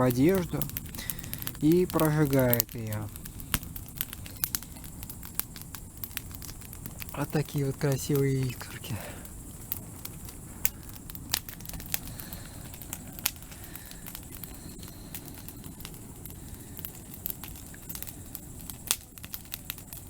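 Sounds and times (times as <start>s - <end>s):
burning wood crackling and popping: 0.0s - 20.0s
campfire flame rushing: 0.0s - 20.0s.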